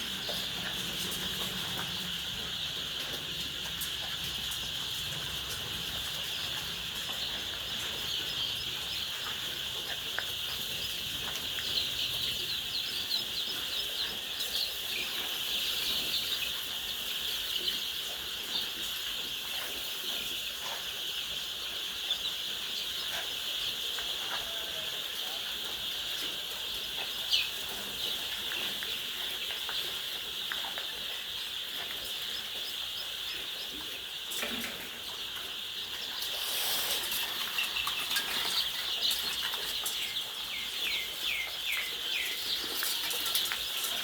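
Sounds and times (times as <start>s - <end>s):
chickens peeping and chattering: 0.0s - 44.0s.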